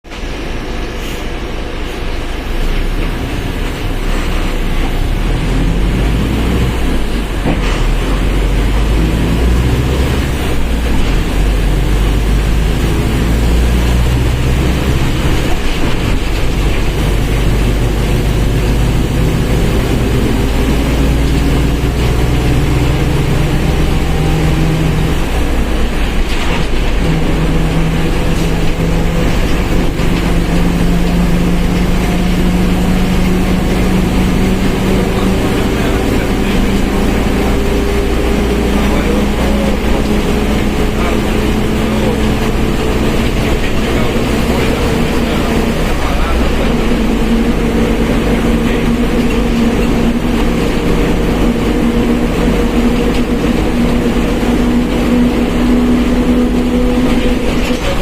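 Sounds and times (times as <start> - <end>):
bus diesel engine under load: 0.0 - 58.0.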